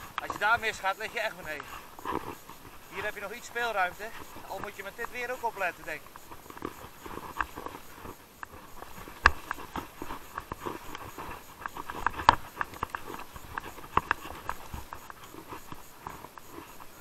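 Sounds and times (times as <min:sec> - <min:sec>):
mountain bike rattling: 0:00.0 - 0:17.0
wheels knocking over stones: 0:00.0 - 0:17.0.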